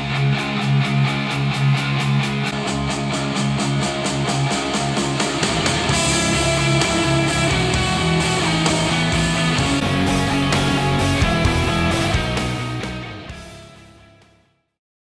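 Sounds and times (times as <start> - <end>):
guitar rock song through speakers: 0.0 - 14.6.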